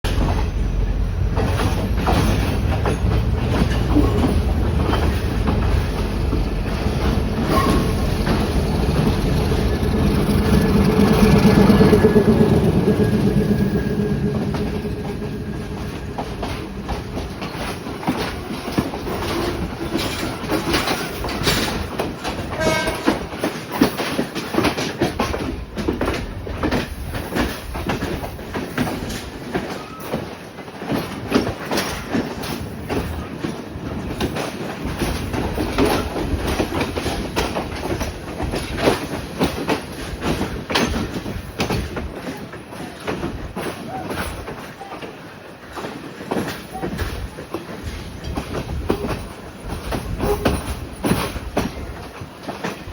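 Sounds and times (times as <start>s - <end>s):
diesel train rumble: 0.0s - 29.9s, 31.0s - 52.9s
train wheels clacking over rails: 0.0s - 52.9s.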